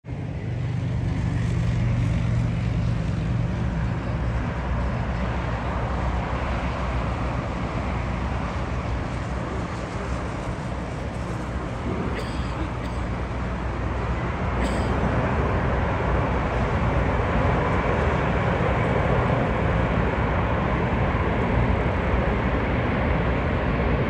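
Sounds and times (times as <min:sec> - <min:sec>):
jet engines idling: 0:00.1 - 0:24.0.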